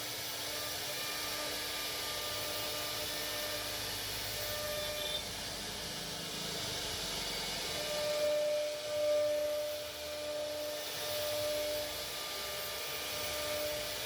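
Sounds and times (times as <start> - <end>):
router spindle cutting: 0.0 - 14.0.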